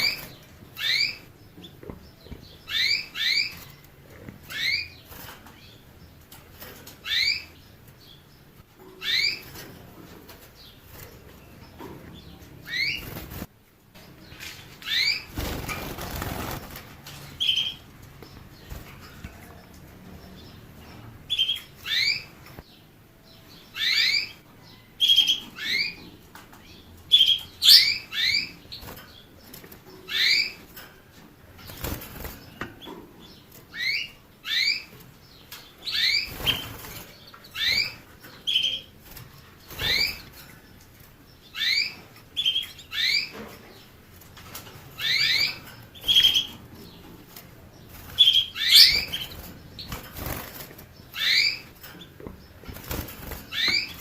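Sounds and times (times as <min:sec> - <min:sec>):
finch chirping: 0:00.0 - 0:13.5, 0:14.8 - 0:22.6, 0:23.3 - 0:30.8, 0:31.6 - 0:54.0.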